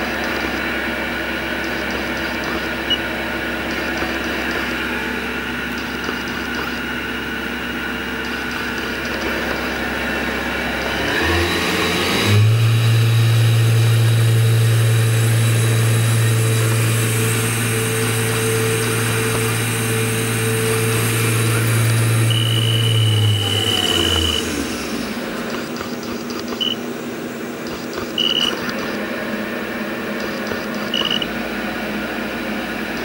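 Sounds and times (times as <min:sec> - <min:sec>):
lathe spindle humming: 0:00.0 - 0:12.4, 0:14.2 - 0:33.0.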